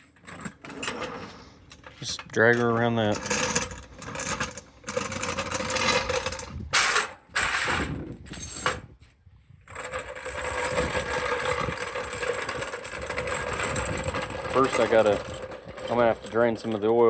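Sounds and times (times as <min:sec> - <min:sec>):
metal floor jack rattling and scraping: 0:00.0 - 0:09.0, 0:09.7 - 0:17.0.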